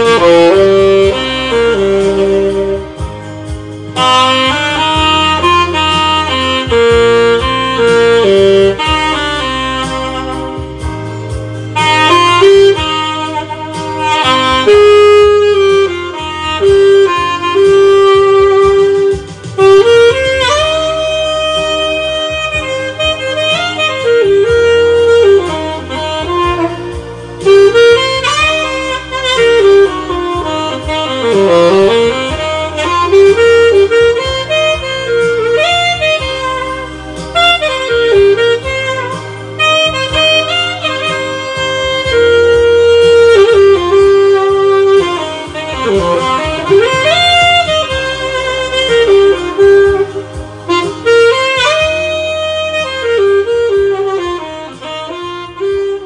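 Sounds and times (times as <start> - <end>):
low backing accompaniment: 0.0 - 56.0
saxophone melody: 0.0 - 56.0.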